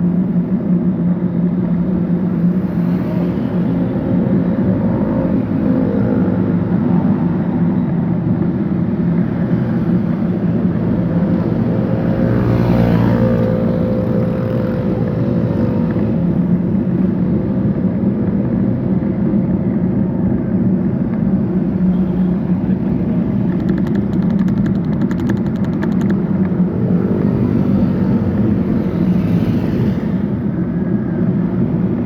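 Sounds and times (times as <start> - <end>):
traffic engine and road noise: 0.0 - 32.0.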